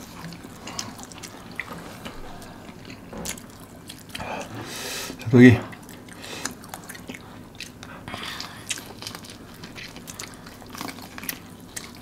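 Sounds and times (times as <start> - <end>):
chewing crispy fried chicken: 0.0 - 12.0.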